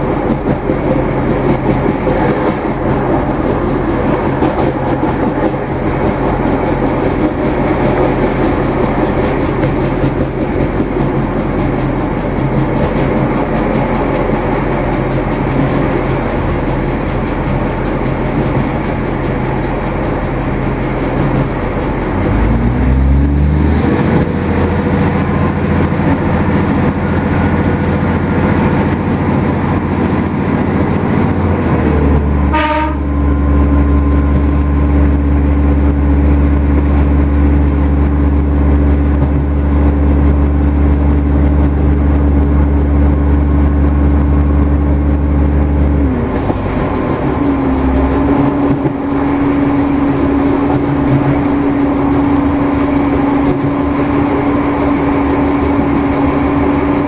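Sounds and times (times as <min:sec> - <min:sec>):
diesel engine: 0:00.0 - 0:57.0
rushing air: 0:00.0 - 0:57.0
train wheels on rail: 0:00.0 - 0:57.0.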